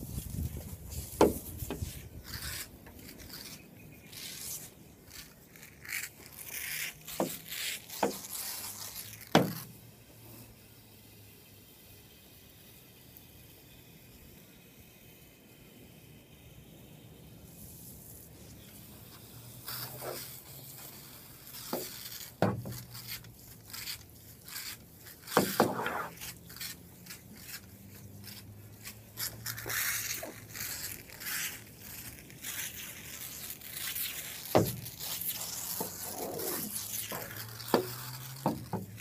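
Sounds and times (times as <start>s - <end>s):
brush scrubbing window glass: 0.0s - 9.9s, 17.4s - 39.0s.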